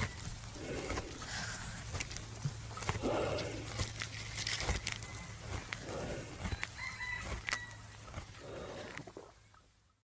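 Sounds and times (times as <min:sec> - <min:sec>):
buffalo jaws clicking: 0:00.0 - 0:09.2.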